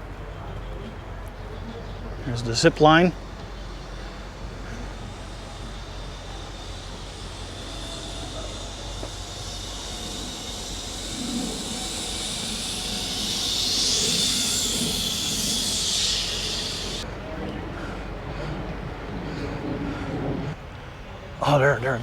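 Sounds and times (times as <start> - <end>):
zip line trolley whirring: 0.0 - 21.3.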